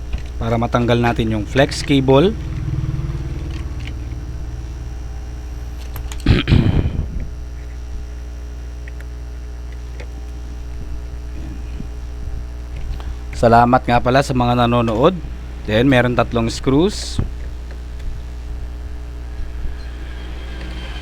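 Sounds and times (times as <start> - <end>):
low rumble and hum: 0.0 - 21.0.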